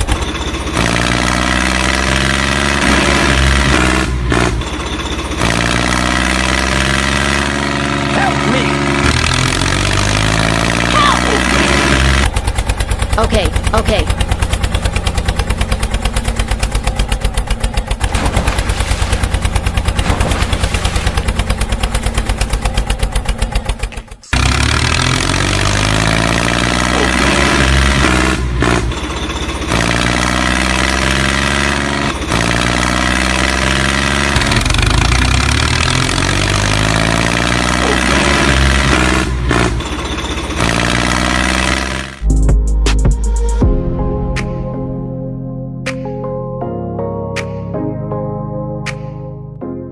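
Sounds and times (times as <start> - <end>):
tractor engine chugging and revving: 0.0 - 44.7.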